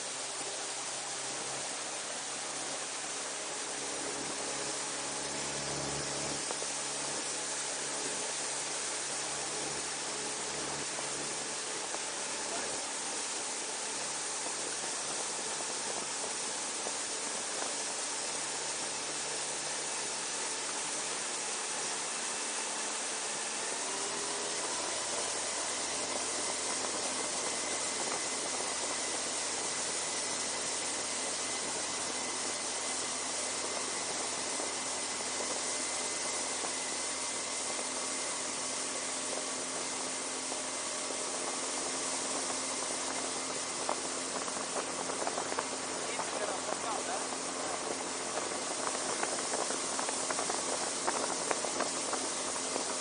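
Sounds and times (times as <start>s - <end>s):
boat motor running: 0.0s - 53.0s
wind and water hissing: 0.0s - 53.0s.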